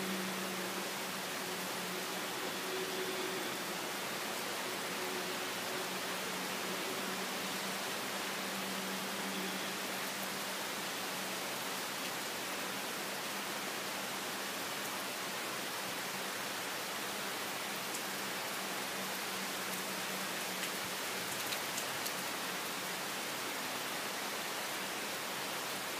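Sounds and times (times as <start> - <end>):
rain on leaves and grass: 0.0 - 25.9.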